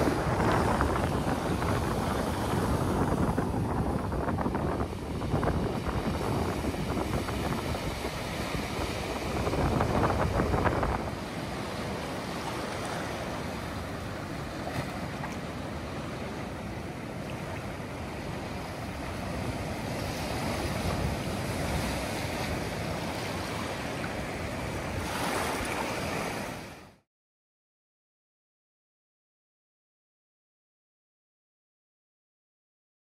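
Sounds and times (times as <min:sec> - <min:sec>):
ocean surf over rocks and sand: 0:00.0 - 0:27.0.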